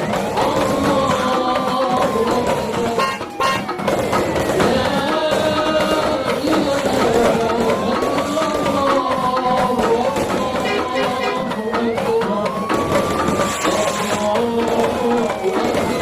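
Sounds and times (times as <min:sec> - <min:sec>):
background music with drums: 0:00.0 - 0:16.0
siren wailing: 0:00.0 - 0:16.0.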